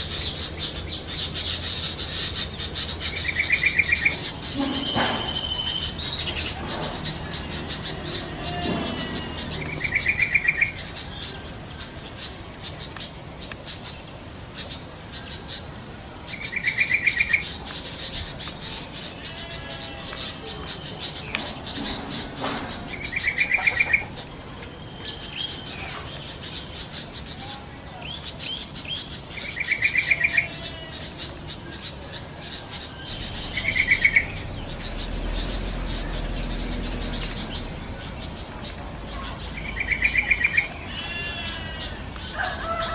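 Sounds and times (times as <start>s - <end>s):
chatter of high bird chirps: 0.0s - 42.9s.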